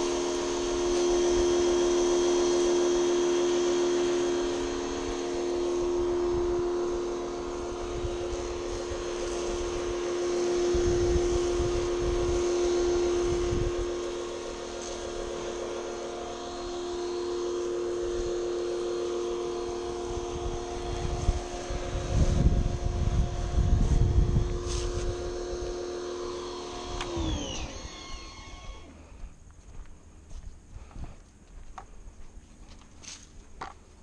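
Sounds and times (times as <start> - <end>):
rushing spray noise: 0.0 - 27.9
pressure washer motor whining: 0.0 - 29.4.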